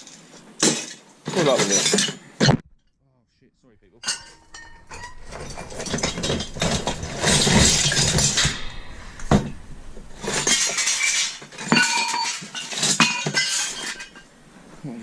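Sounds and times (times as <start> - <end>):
scrap metal clattering: 0.0 - 2.3, 4.0 - 14.4.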